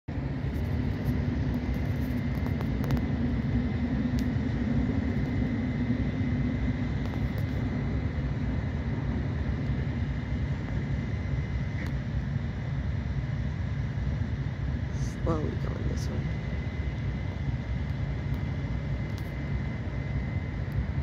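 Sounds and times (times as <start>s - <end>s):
diesel locomotive rumble: 0.0s - 21.0s
faint steady whine: 0.1s - 21.0s.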